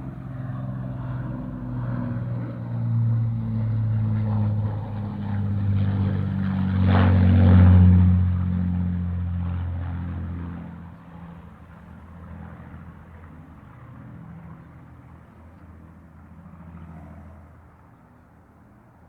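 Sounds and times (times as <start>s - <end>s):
airplane engine rumble: 0.0s - 19.0s.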